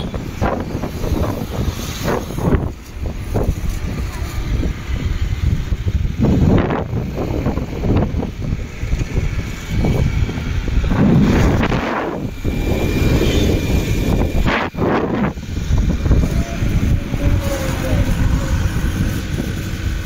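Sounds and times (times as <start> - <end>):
motorbike running: 0.0 - 20.0
road noise: 0.0 - 20.0
wind buffeting microphone: 0.0 - 20.0.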